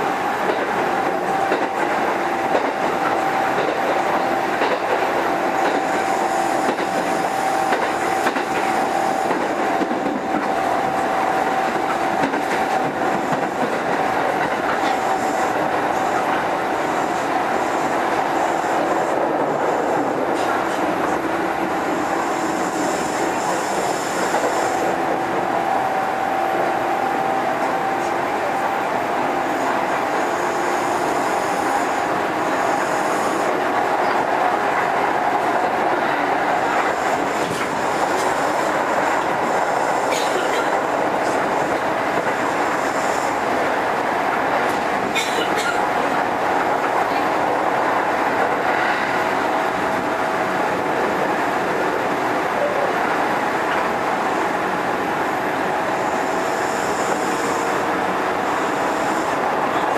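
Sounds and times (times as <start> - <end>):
train rolling noise and hum: 0.0 - 59.9.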